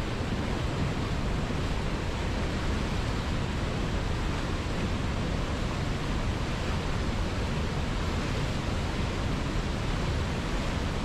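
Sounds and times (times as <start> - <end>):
rapids rushing over boulders: 0.0 - 11.0.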